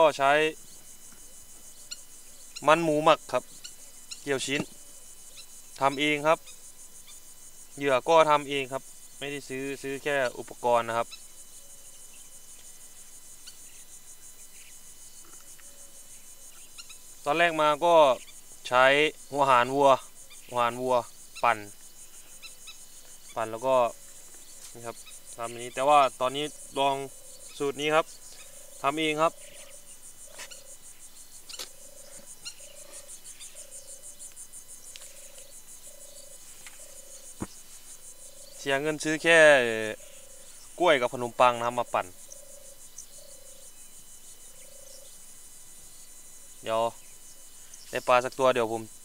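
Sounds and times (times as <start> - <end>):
insects chirping: 0.0 - 49.0
frog low buzzy call: 1.3 - 45.3.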